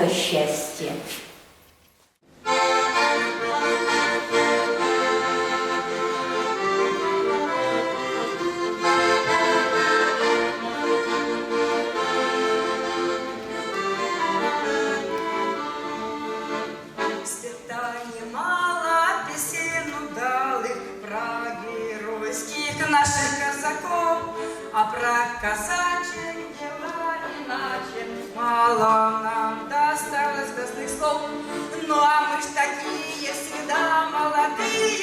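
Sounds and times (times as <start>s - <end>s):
accordion playing: 2.3s - 35.0s.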